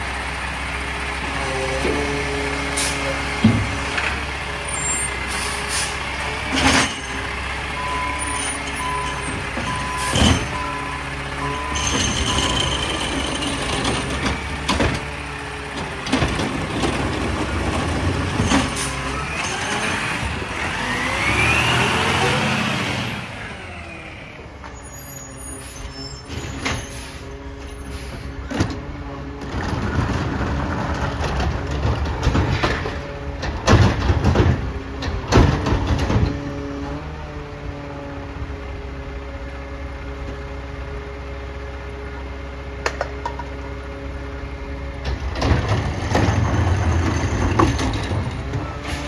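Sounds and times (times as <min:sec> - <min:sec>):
truck engine whining and idling: 0:00.0 - 0:49.0.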